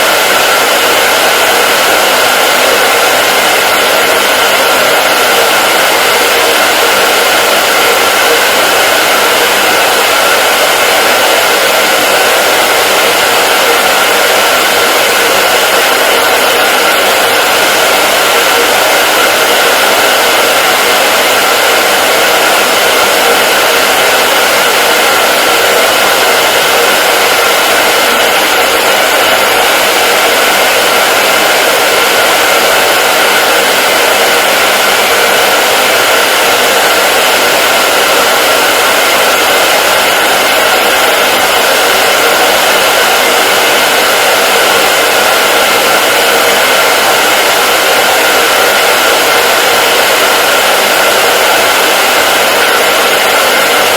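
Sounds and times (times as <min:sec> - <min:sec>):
hair dryer running: 0:00.0 - 0:53.9.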